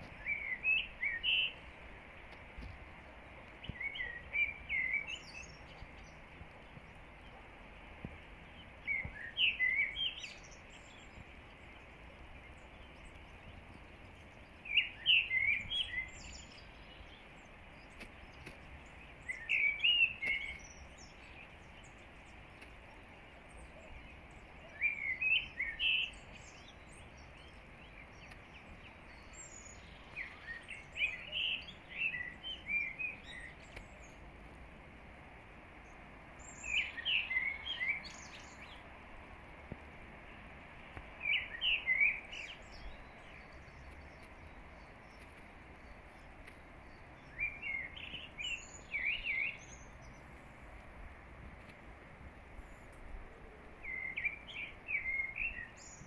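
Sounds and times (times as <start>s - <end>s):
blackbird singing: 0.0s - 1.8s, 3.1s - 7.5s, 8.1s - 34.2s, 36.4s - 38.9s, 41.2s - 50.3s, 52.7s - 56.0s
background hiss: 0.0s - 56.0s.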